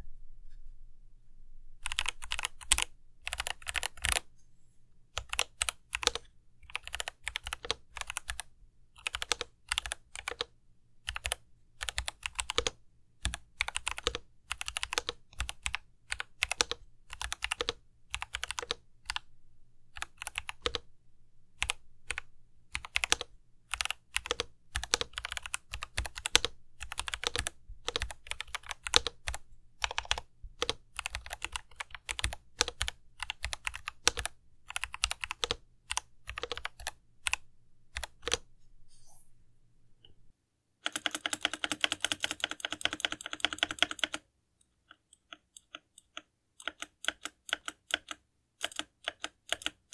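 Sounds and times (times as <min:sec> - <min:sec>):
mechanical keyboard typing: 0:01.8 - 0:04.3, 0:05.2 - 0:10.5, 0:11.1 - 0:19.3, 0:19.9 - 0:20.9, 0:21.6 - 0:38.4, 0:40.8 - 0:49.9.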